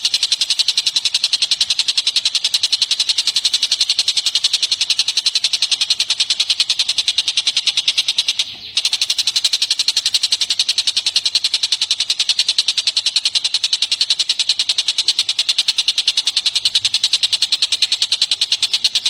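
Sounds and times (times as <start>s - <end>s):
bird chattering trill: 0.0s - 19.0s.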